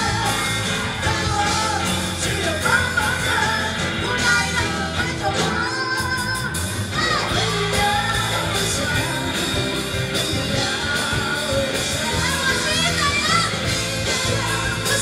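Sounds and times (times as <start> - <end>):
drum kit: 0.0 - 15.0
electric bass: 0.0 - 15.0
keyboard: 0.0 - 15.0
women singing into microphones: 0.0 - 15.0.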